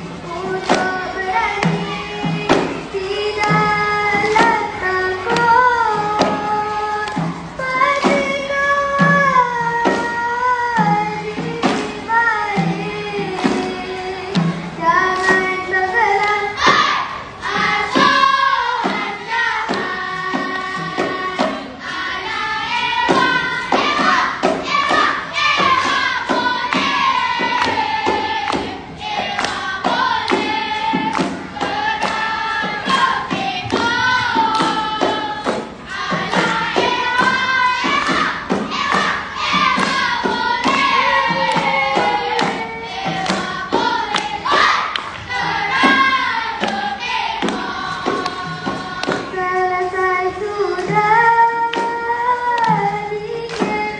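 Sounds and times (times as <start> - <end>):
children singing in chorus: 0.0 - 53.9
hands clapping in rhythm: 0.2 - 53.9.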